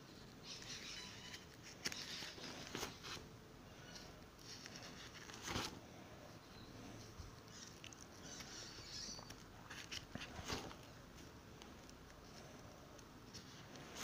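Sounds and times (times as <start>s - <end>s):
plastic sleeve pages turning: 0.4s - 3.2s, 3.8s - 5.8s, 7.4s - 14.0s.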